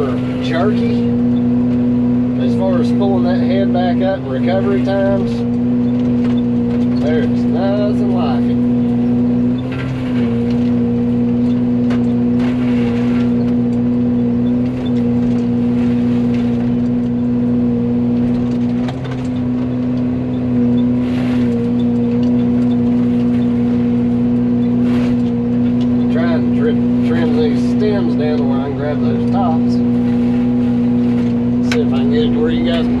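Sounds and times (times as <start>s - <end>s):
excavator engine and hydraulic drone: 0.0s - 33.0s
mulcher grinding brush: 0.0s - 33.0s.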